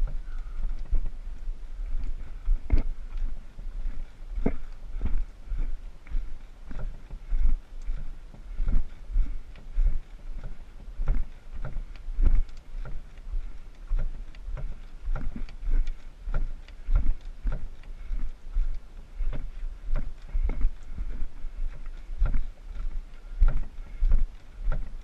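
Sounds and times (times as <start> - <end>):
footsteps on rocky trail: 0.0 - 25.0.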